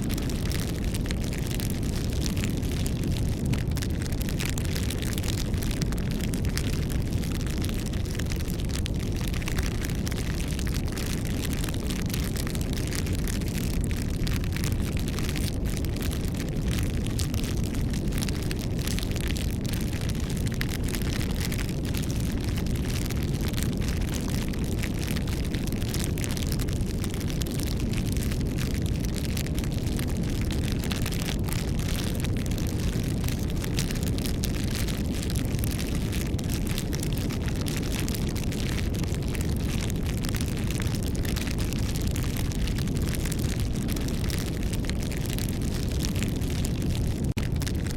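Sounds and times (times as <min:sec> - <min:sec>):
burning wood crackling: 0:00.0 - 0:47.9
low rumble of flames: 0:00.0 - 0:47.9.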